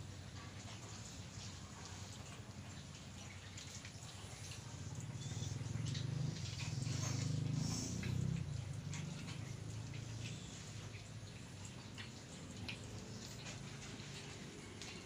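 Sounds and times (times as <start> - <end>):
cats licking fur: 0.0 - 15.0.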